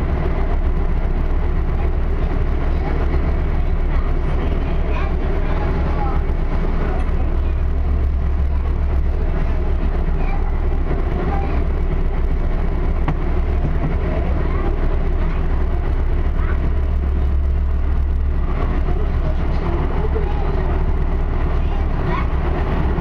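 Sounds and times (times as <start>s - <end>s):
train car rumbling: 0.0s - 23.0s.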